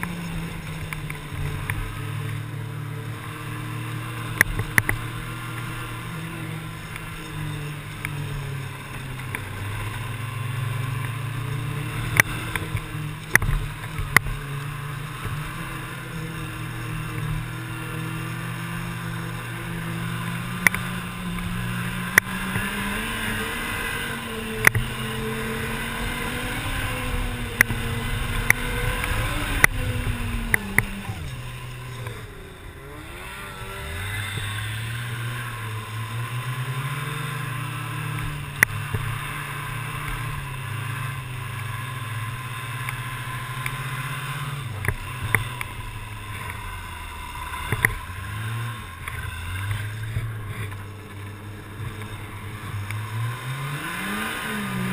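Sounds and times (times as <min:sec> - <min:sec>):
snowmobile engine running: 0:00.0 - 0:54.9
track and wind hiss: 0:00.0 - 0:54.9.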